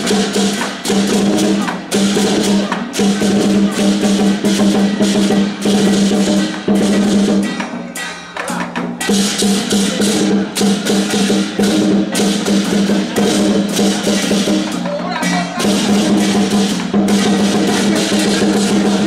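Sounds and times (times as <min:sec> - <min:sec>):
cymbals clashing: 0:00.0 - 0:19.0
drum: 0:00.0 - 0:19.0.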